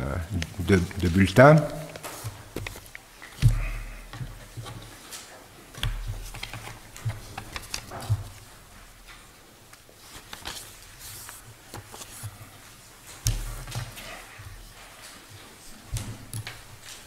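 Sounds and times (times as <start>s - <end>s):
paper rustling: 0.3s - 9.2s, 9.8s - 17.0s.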